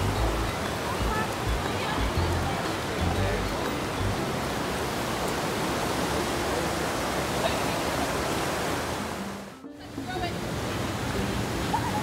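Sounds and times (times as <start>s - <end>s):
river water rushing over rapids: 0.0s - 12.0s.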